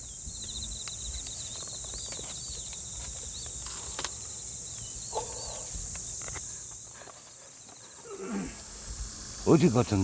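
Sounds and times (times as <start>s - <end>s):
insect chirping calls: 0.0s - 10.0s
insect chorus trilling: 0.0s - 10.0s.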